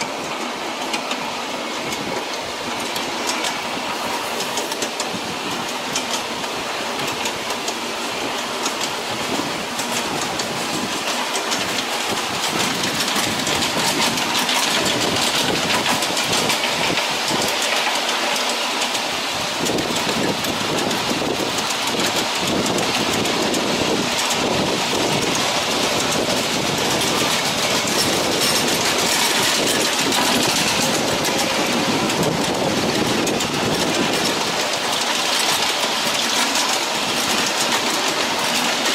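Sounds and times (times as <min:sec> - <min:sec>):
fine clicking: 0:00.0 - 0:38.9
train wheels rolling on rails: 0:00.0 - 0:38.9.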